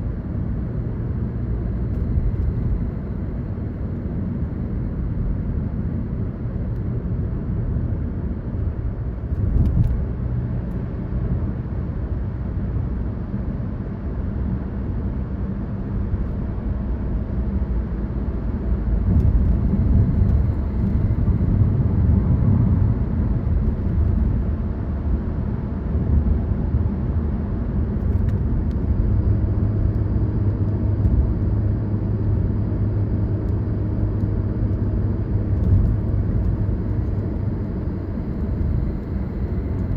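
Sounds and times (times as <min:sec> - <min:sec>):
car engine and tyre rumble: 0:00.0 - 0:39.9
engine hum: 0:00.0 - 0:39.9.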